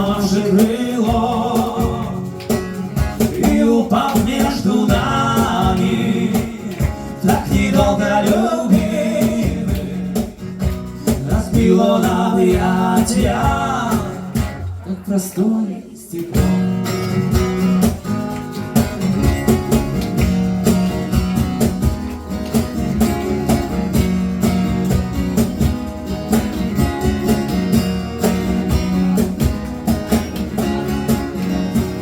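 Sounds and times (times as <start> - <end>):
cajon beat: 0.0 - 32.0
strummed acoustic guitar: 0.0 - 32.0.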